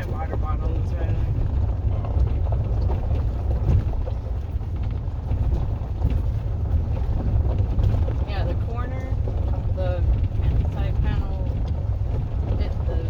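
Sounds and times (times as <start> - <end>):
truck driving low rumble: 0.0 - 13.0
tyre and wind noise: 0.0 - 13.0.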